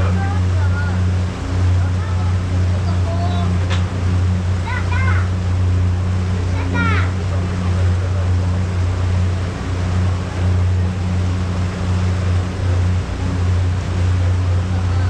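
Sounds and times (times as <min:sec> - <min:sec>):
ferry engine droning: 0:00.0 - 0:15.0
wind: 0:00.0 - 0:15.0.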